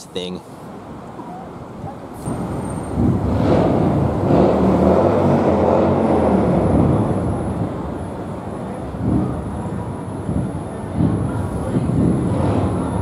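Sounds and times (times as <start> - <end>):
road vehicle passing: 0.0 - 13.0.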